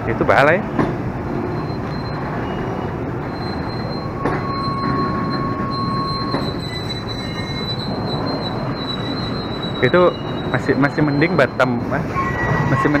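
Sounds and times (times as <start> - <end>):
train wheels rumbling on rails: 0.0 - 13.0
lower wheel squeal: 1.3 - 13.0
thin high wheel squeal: 1.4 - 13.0.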